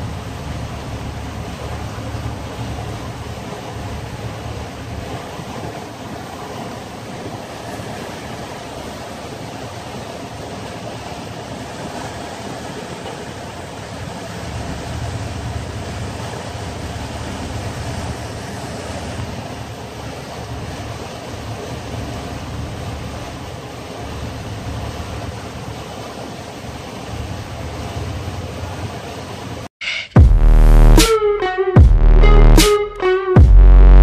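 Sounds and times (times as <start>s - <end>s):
water rushing along hull: 0.0s - 29.7s
motor boat engine rumble: 0.0s - 32.7s.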